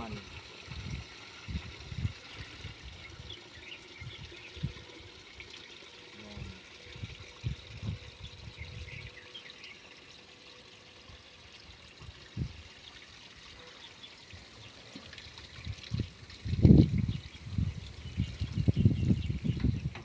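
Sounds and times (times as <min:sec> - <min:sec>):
water pouring into tank: 0:00.0 - 0:20.0.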